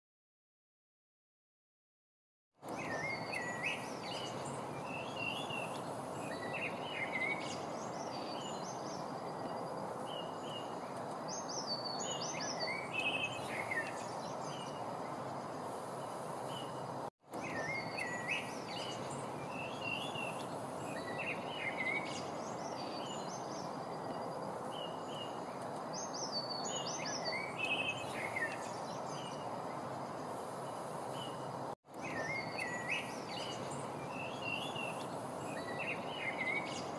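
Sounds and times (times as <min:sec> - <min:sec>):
small birds chirping and singing: 0:02.6 - 0:36.9
steady rushing noise: 0:02.7 - 0:36.9.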